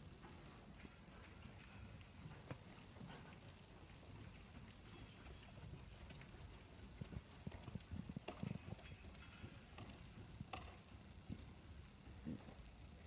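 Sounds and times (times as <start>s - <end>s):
muffled hoofbeats on sand: 0.0s - 12.8s.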